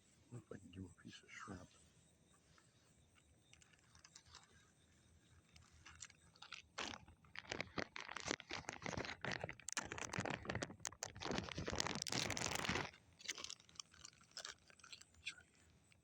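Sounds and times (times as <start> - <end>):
crackling crunching rustle: 2.5 - 16.0.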